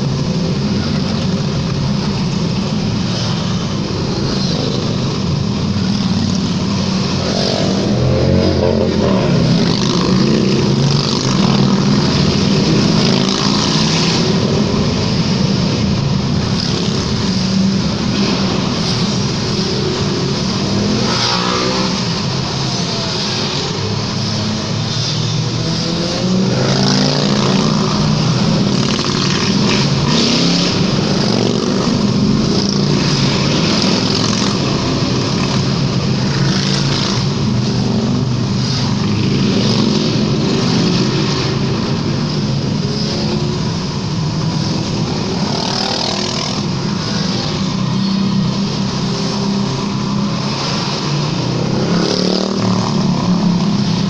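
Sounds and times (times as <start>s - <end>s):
motorcycle engines in tunnel: 0.0s - 54.0s.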